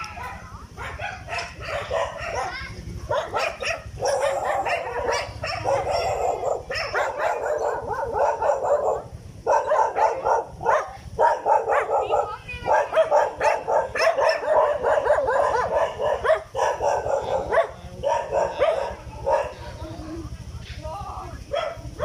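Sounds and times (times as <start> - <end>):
dogs barking: 0.0 - 20.3, 21.4 - 22.0.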